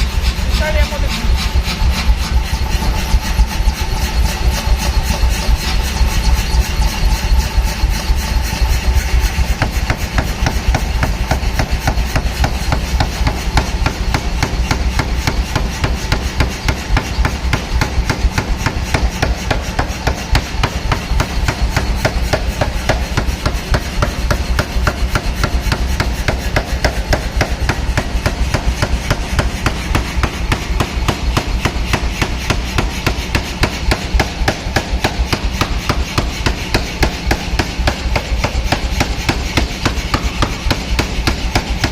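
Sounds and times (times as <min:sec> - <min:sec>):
forging hammer metallic blows: 0:00.0 - 0:41.9
motor and compressor hum: 0:00.0 - 0:41.9.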